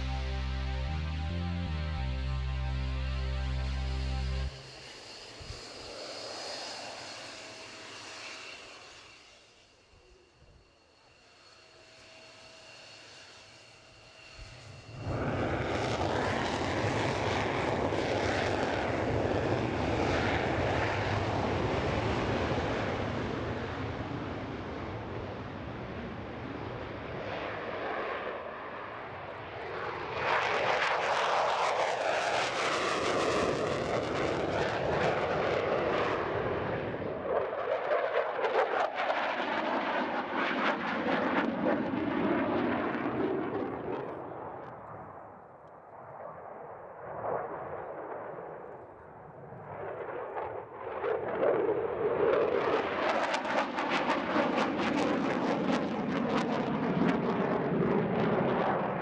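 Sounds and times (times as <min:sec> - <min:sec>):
jet engine roaring: 0:00.0 - 0:59.0.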